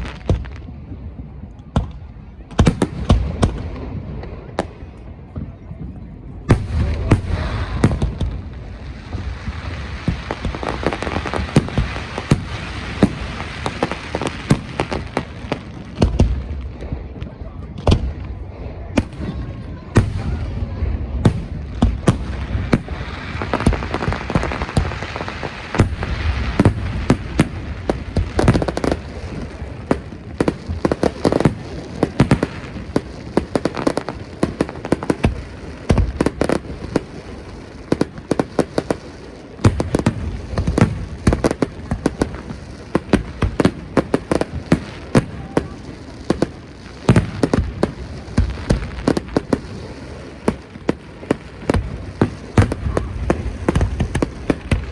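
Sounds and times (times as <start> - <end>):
fireworks bangs and pops: 0.0 - 54.9
fireworks crackling: 0.0 - 54.9.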